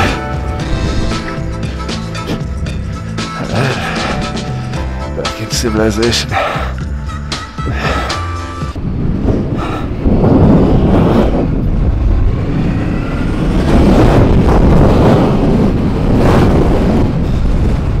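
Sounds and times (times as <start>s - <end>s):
wind rumble on microphone: 0.0s - 4.8s, 7.6s - 18.0s.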